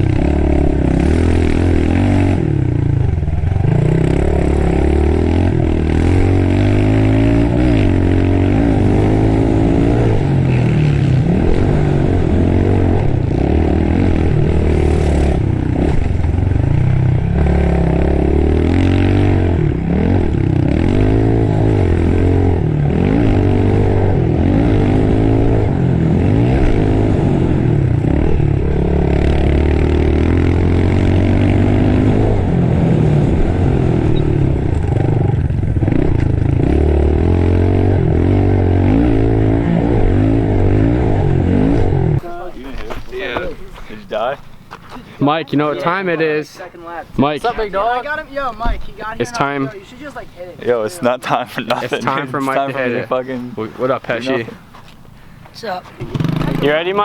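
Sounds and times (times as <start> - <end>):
pit bike engine revving: 0.0 - 55.4, 56.0 - 57.0.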